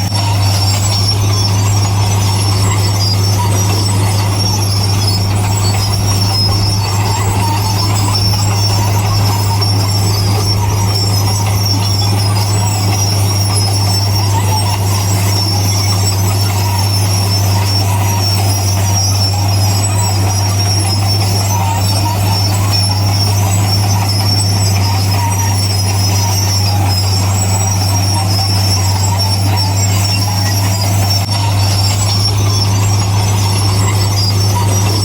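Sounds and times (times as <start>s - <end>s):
bulldozer diesel engine drone: 0.0s - 35.0s
steel tracks squealing: 0.0s - 35.0s.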